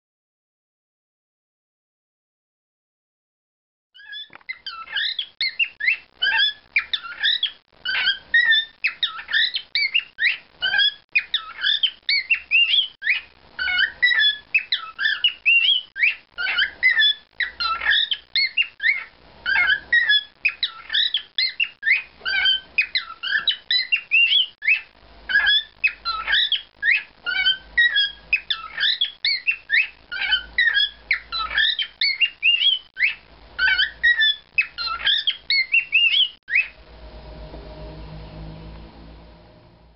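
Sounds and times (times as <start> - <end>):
cockatiel chirping and whistling: 4.0 - 36.8.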